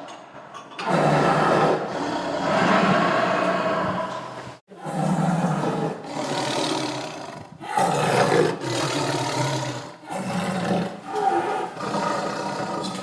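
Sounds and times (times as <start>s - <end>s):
tiger roaring: 0.8s - 13.0s.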